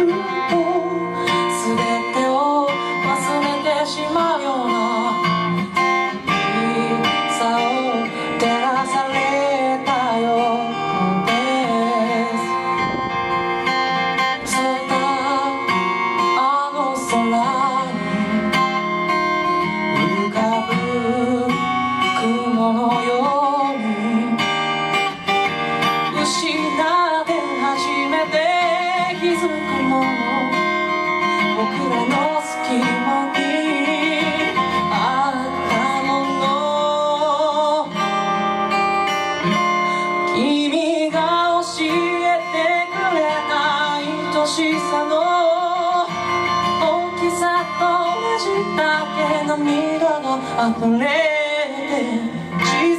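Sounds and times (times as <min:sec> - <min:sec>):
singing melody line: 0:00.0 - 0:52.9
strummed acoustic guitar: 0:00.0 - 0:52.9.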